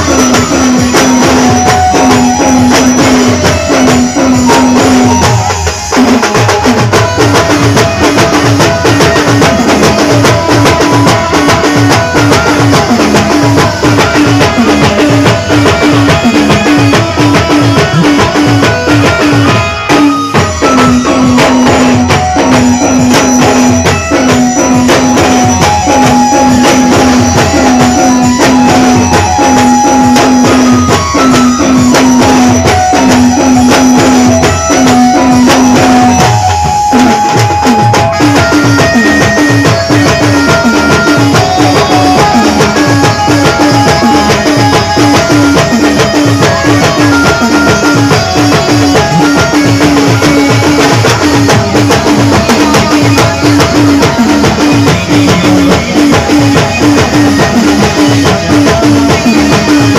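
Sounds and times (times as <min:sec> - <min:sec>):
folk band music: 0:00.0 - 0:59.9.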